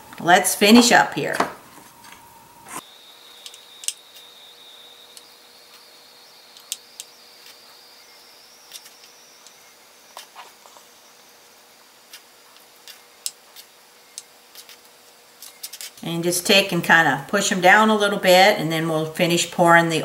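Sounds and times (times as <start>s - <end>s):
faint high-pitched whine: 0.0s - 20.0s.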